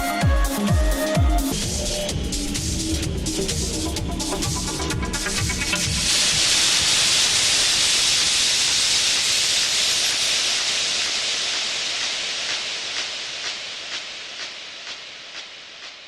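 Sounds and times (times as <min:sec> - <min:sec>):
steady hissing noise: 0:01.4 - 0:16.0.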